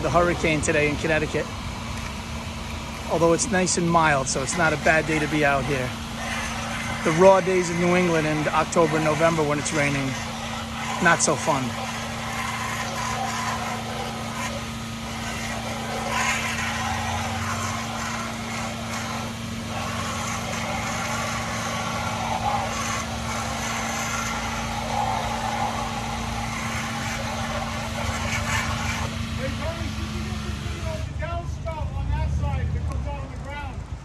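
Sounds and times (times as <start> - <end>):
constant hiss: 0.0 - 34.0
pressure washer engine humming: 0.0 - 34.0.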